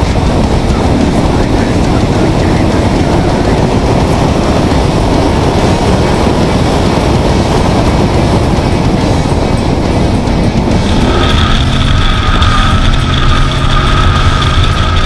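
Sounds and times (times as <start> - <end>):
car engine at speed: 0.0 - 15.0
road noise: 0.0 - 15.0
wind rushing: 0.0 - 15.0.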